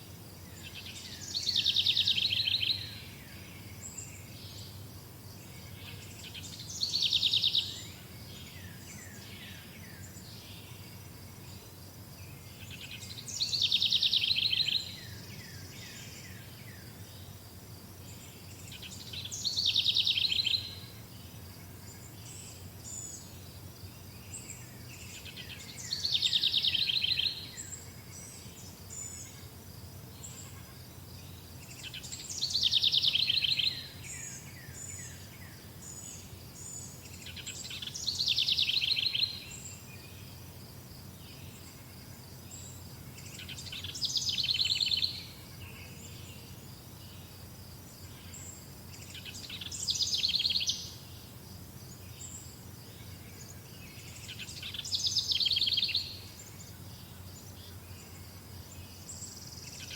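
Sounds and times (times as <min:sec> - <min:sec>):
songbird trilling song: 0:00.5 - 0:17.4, 0:18.0 - 0:29.5, 0:30.2 - 0:59.9.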